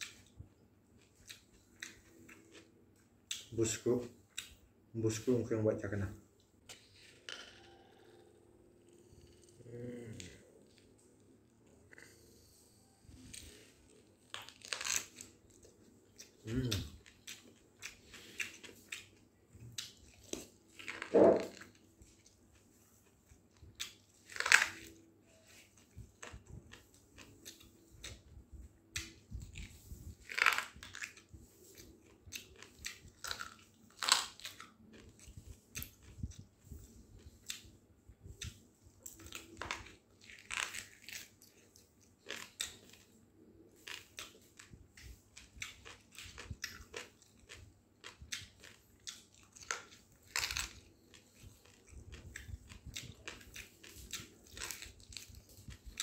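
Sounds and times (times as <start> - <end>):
person chewing food: 0.0 - 4.6, 6.4 - 56.0.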